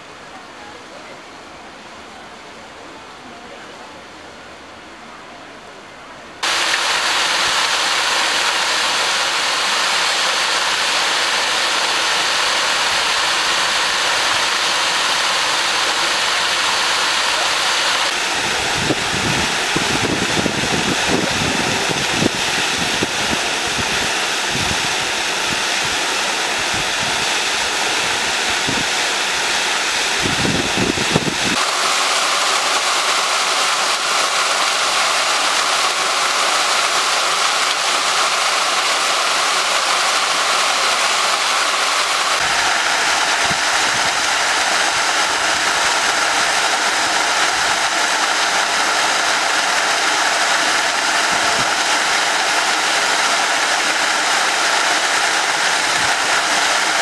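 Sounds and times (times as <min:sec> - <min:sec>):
fountain water splashing: 0:06.4 - 0:57.0.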